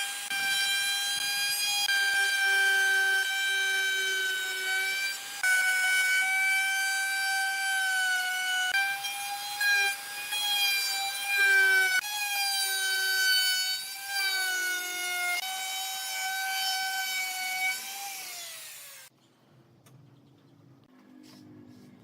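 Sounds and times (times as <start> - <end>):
power tool cutting wood: 0.0 - 19.1.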